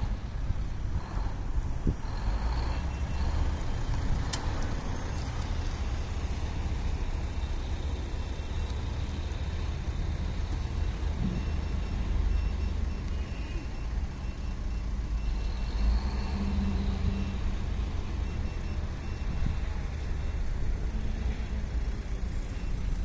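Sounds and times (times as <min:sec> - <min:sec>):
car engines idling: 0:00.0 - 0:23.0
light traffic noise: 0:00.0 - 0:23.0.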